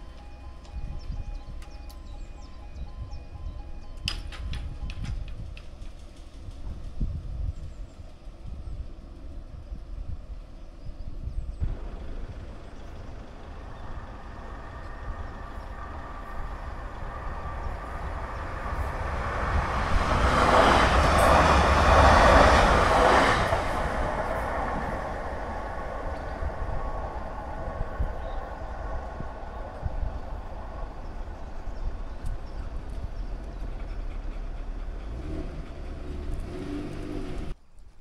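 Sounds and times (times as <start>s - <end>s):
train passing: 0.0s - 37.6s.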